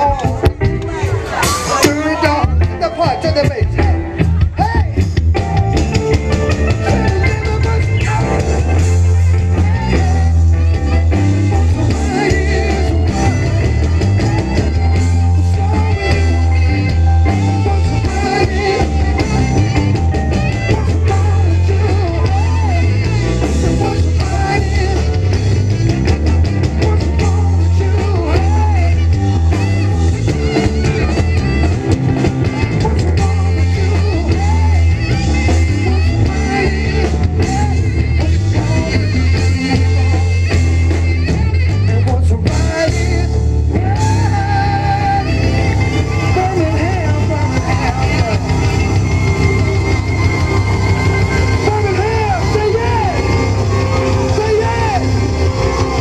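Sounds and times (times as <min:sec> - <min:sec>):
drum kit: 0:00.0 - 0:56.0
guitar: 0:00.0 - 0:56.0
heavy bass line: 0:00.0 - 0:56.0.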